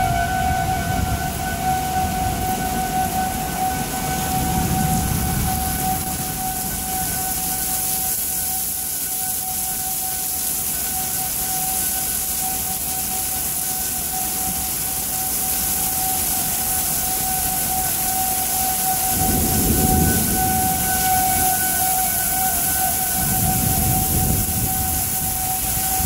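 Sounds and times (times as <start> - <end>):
heavy rain pouring: 0.0 - 26.0
warning siren steady tone: 0.0 - 26.0.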